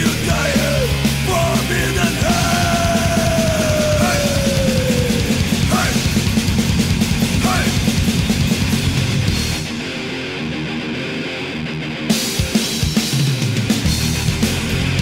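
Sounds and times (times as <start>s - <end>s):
drums pounding: 0.0s - 10.2s, 12.1s - 15.0s
bass guitar: 0.0s - 15.0s
distorted electric guitars: 0.0s - 15.0s.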